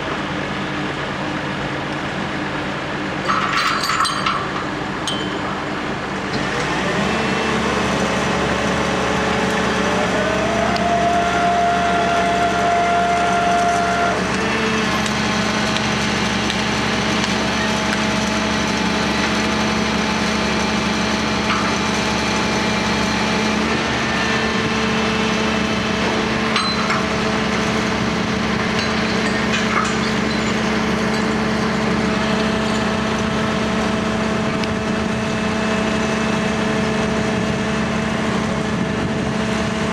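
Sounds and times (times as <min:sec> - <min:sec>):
heavy diesel machinery humming: 0:00.0 - 0:39.9.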